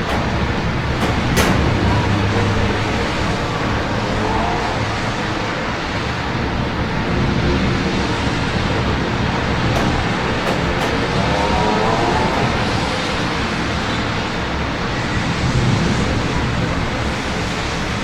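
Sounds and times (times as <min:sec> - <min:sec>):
road traffic rumble: 0:00.0 - 0:18.0
steady rain: 0:00.0 - 0:18.0.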